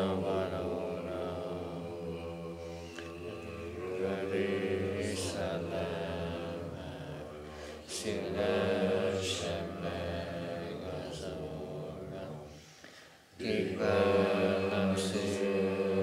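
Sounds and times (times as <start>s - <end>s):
low chanting: 0.0s - 16.0s.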